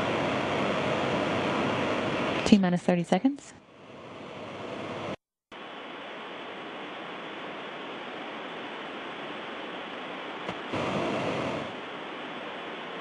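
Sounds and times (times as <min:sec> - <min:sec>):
static hiss: 0:00.0 - 0:02.6, 0:03.8 - 0:13.0.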